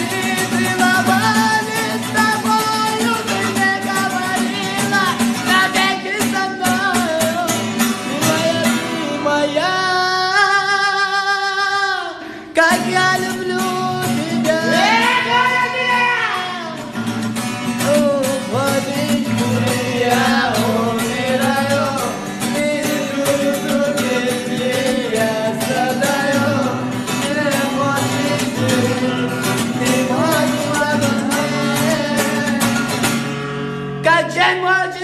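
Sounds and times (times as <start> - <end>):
person singing: 0.0 - 17.1, 17.8 - 33.2
strummed guitar: 0.0 - 35.0.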